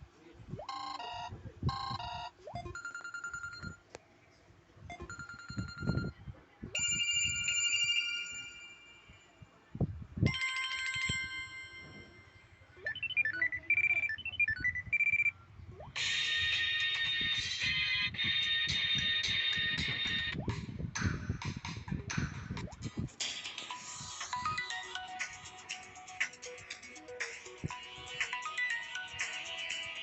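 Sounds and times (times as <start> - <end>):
electronic ringtone melodies: 0.6 - 3.8, 4.9 - 6.2, 6.8 - 9.3, 10.2 - 21.2, 22.0 - 30.0.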